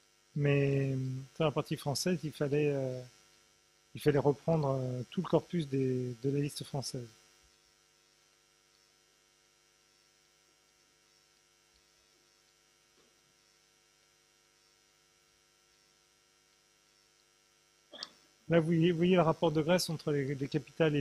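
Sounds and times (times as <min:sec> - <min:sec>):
faint mains hum: 0:00.0 - 0:21.0.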